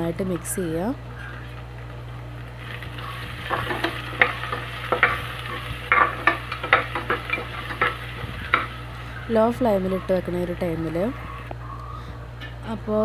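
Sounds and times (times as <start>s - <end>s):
light frying sizzle: 0.0s - 11.6s.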